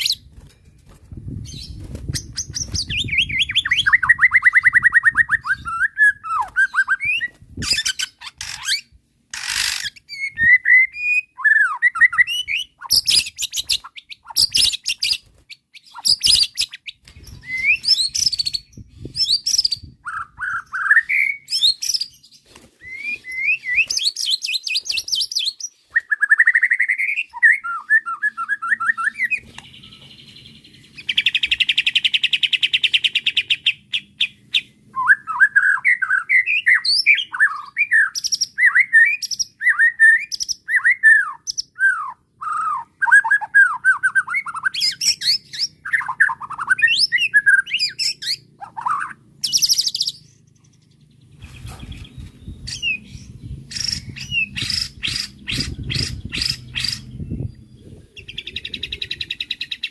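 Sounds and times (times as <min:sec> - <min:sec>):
songbird whistling and trilling: 0:00.0 - 0:00.3, 0:01.4 - 0:50.3, 0:51.4 - 0:59.9.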